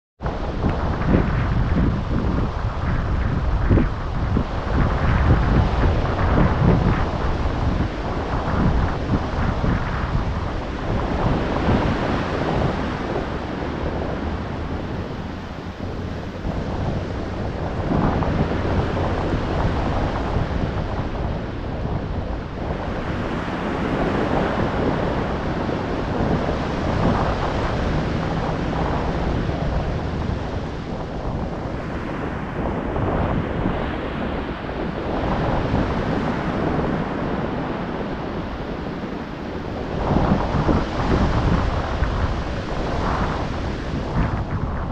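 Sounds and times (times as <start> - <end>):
ocean waves breaking on shore: 0.2 - 44.9
wind buffeting microphone: 0.2 - 44.9.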